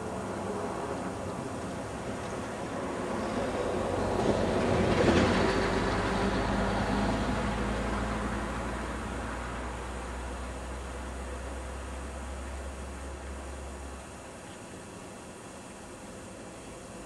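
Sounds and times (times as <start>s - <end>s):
train rumbling: 0.0s - 14.2s.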